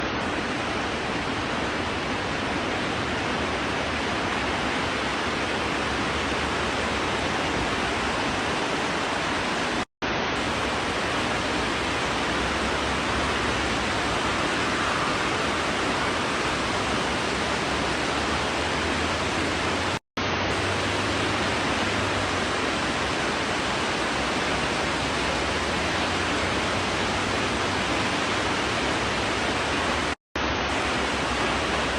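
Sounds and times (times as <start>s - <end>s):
rushing water: 0.0s - 31.9s.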